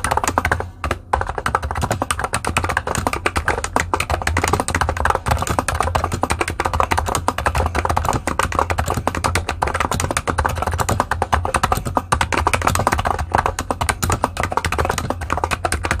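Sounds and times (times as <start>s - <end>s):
fast typing on keyboard: 0.0s - 16.0s.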